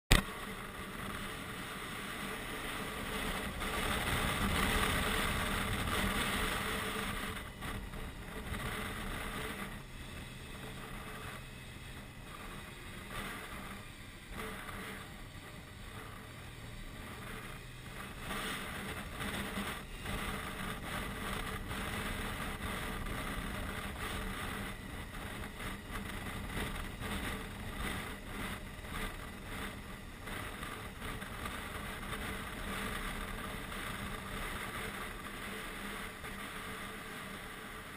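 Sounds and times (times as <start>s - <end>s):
motorcycle engine running: 0.1s - 37.9s
wind rushing over microphone: 0.1s - 37.9s.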